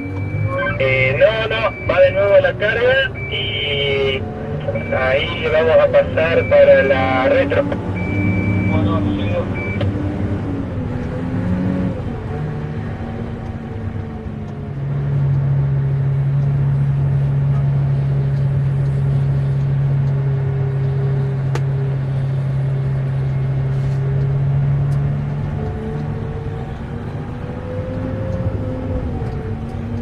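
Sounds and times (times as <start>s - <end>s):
diesel truck engine droning: 0.0s - 30.0s.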